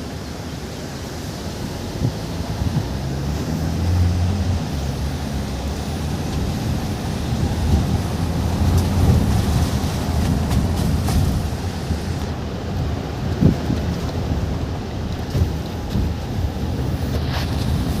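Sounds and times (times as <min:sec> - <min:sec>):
car engine hum: 0:00.0 - 0:18.0
wind and tyre noise: 0:00.0 - 0:18.0.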